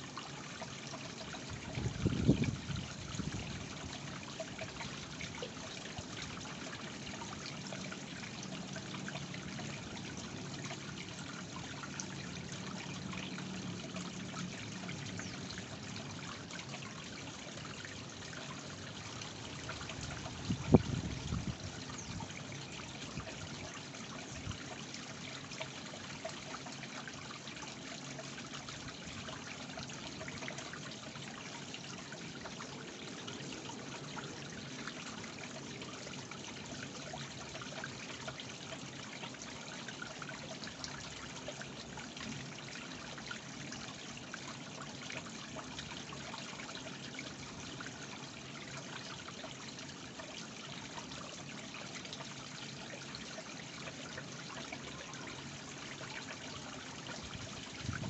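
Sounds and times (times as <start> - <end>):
small waterfall trickling: 0.0 - 58.0.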